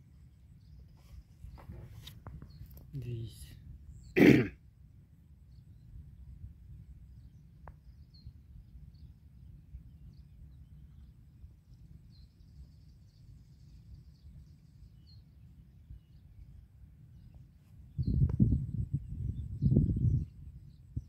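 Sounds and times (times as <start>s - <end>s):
small birds chirping: 0.0s - 4.5s, 5.4s - 21.0s.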